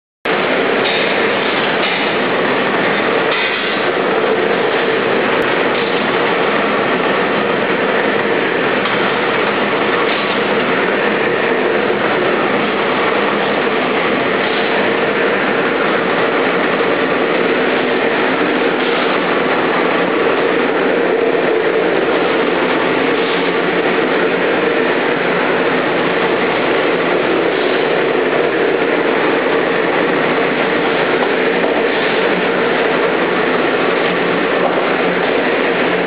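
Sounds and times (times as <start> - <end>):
noodle machine running: 0.3 - 36.0.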